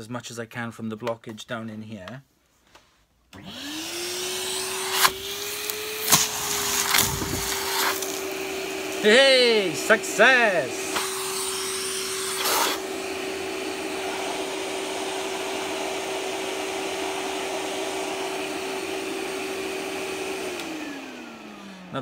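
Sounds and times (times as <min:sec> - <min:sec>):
vacuum cleaner running: 0:03.4 - 0:22.0.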